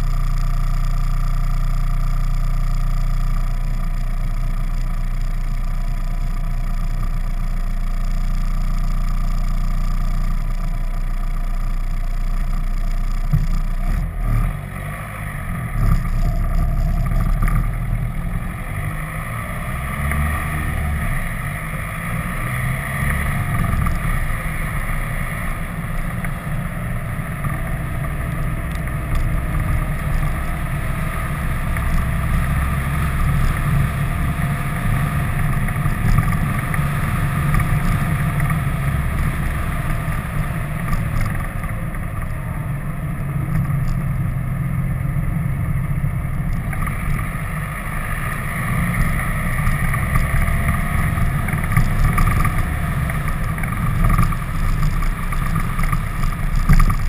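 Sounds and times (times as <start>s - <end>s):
vehicle engine and tyre rumble: 0.0s - 57.0s.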